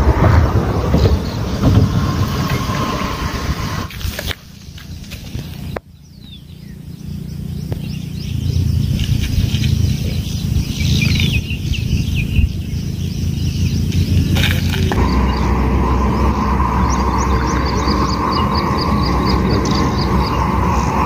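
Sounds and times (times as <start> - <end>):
birds chirping: 0.0 - 21.0
low outdoor rumble: 0.0 - 21.0.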